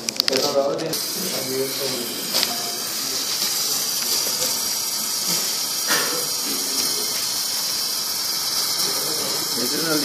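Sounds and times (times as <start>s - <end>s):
torch flame hissing: 0.3s - 10.0s.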